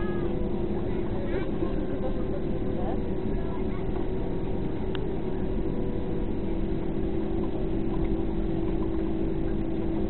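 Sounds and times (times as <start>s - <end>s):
airliner cabin engine rumble: 0.0s - 10.0s
low hum: 0.0s - 10.0s.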